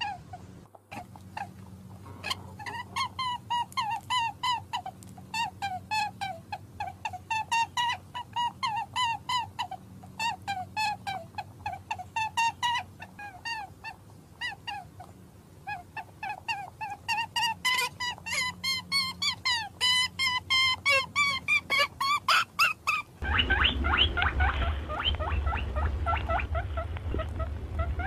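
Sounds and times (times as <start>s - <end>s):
short high-pitched animal calls: 0.0s - 15.0s, 15.6s - 28.0s.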